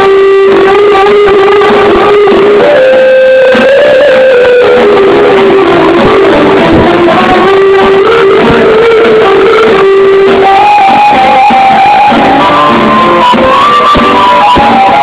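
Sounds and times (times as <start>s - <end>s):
accordion melody: 0.0s - 15.0s
electric guitar: 0.0s - 15.0s
keyboard accompaniment: 0.0s - 15.0s.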